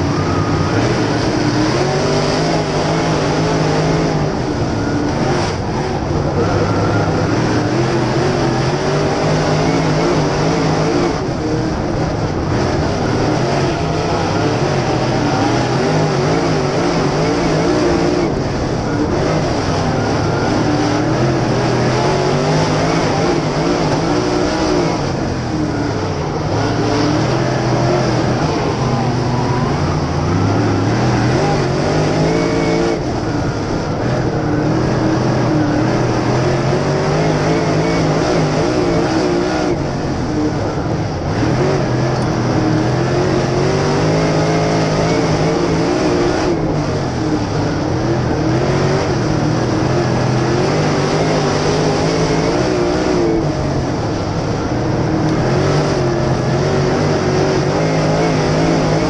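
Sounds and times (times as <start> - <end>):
racing car engine revving: 0.0 - 59.0
wind and tyre noise: 0.0 - 59.0.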